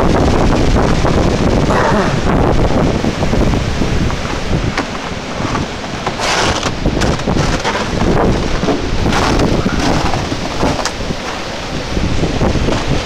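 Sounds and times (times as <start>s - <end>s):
wind buffeting on microphone: 0.0s - 13.0s
wind gusting through trees: 0.0s - 13.0s.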